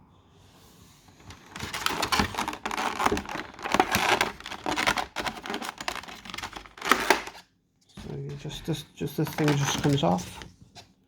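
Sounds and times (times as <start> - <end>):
packaging rustling and crinkling: 1.1 - 11.0.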